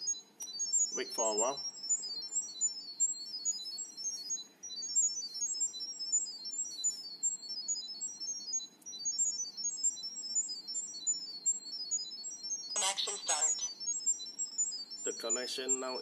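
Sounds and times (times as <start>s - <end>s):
rapid high-pitched beeps: 0.0s - 16.0s.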